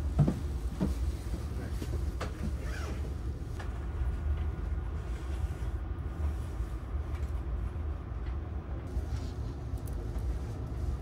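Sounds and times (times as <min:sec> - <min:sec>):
train interior low rumble: 0:00.0 - 0:11.0.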